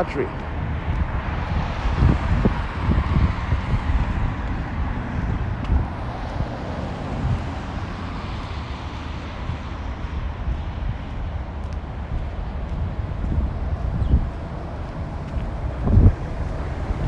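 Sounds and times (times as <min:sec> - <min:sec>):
road traffic going by: 0:00.0 - 0:17.0
wind buffeting microphone: 0:00.0 - 0:17.0.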